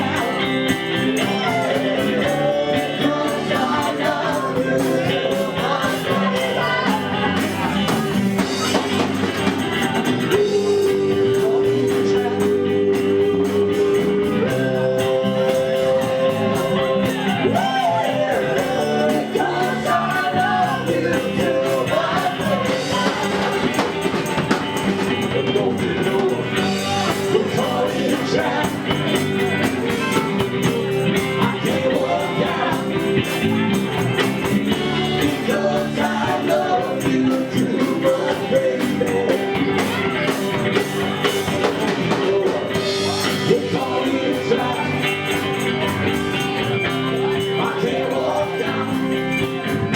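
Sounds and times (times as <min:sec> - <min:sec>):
drums: 0:00.0 - 0:49.9
electric guitar: 0:00.0 - 0:49.9
person singing: 0:00.0 - 0:49.9.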